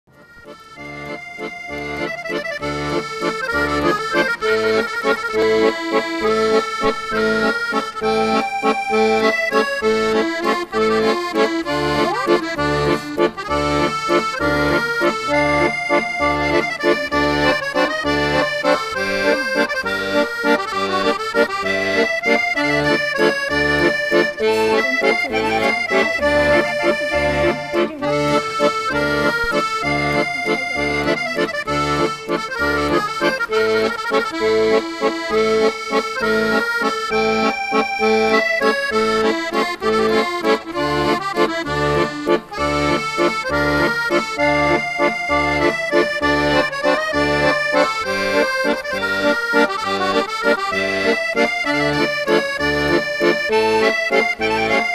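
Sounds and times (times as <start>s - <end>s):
instrumental background music: 0.1s - 54.9s.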